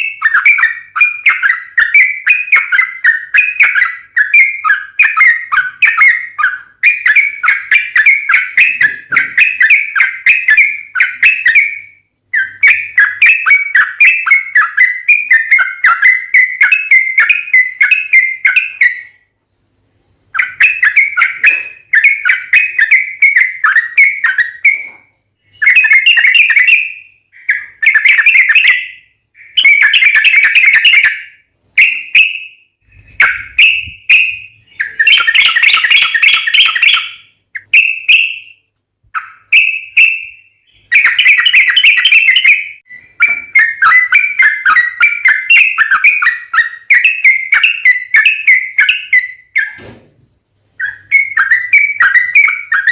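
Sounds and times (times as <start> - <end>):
bird chattering song: 0.0 - 19.3, 20.0 - 49.8, 50.8 - 52.9.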